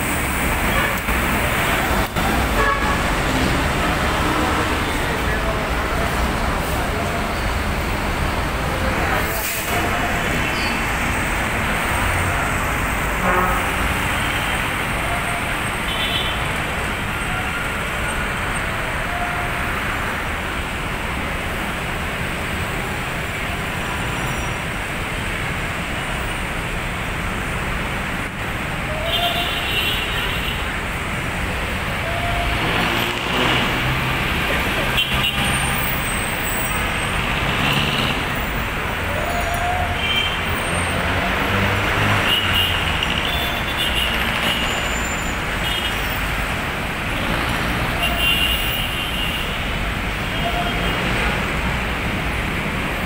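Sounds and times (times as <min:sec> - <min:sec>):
traffic engines and tyres: 0:00.0 - 0:53.0.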